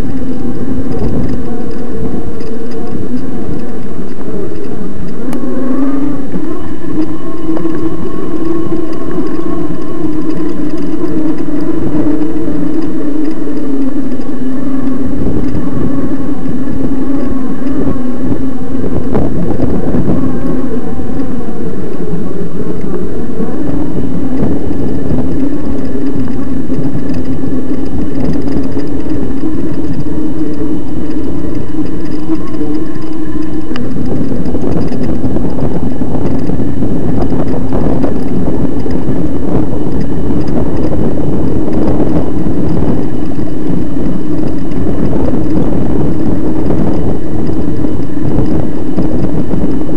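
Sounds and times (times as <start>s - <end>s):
electric bike motor whining: 0.0s - 49.9s
rough rumble with knocks: 0.0s - 49.9s.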